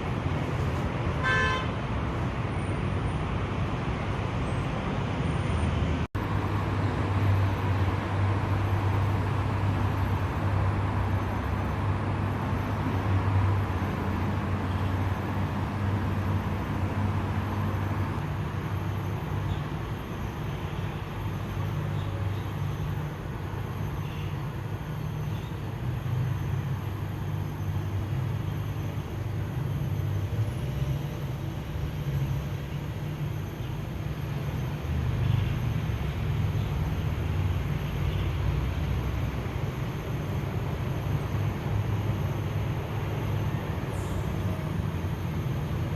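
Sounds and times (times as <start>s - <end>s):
road traffic noise: 0.0s - 45.9s.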